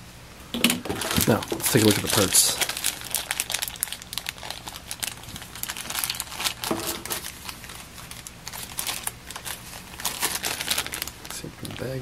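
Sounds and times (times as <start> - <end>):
plastic bag crinkling: 0.6 - 12.0.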